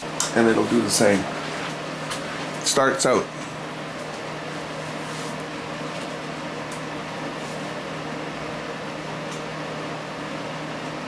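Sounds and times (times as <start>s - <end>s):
fan-like noise: 0.0s - 11.0s.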